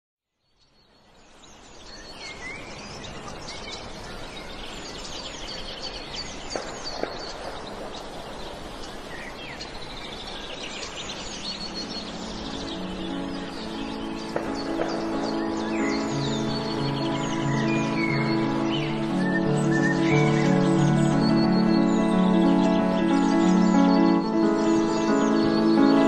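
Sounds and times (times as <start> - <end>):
steady outdoor hiss: 0.3 - 26.0
small birds chirping: 0.4 - 26.0.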